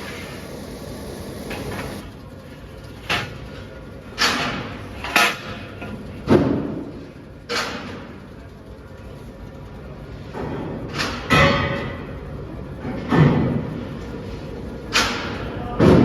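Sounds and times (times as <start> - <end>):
workshop background noise: 0.0 - 16.0.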